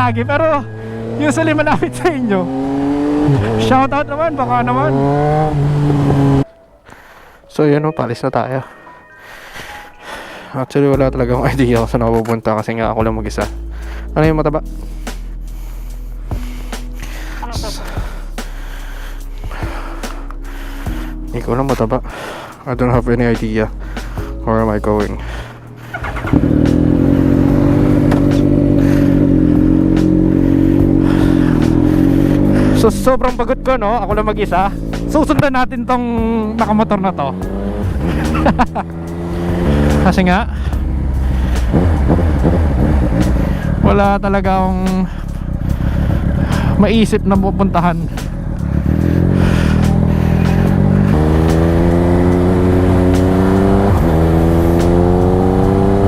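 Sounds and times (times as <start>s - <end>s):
motorcycle engine running: 0.8s - 6.5s, 15.5s - 56.0s.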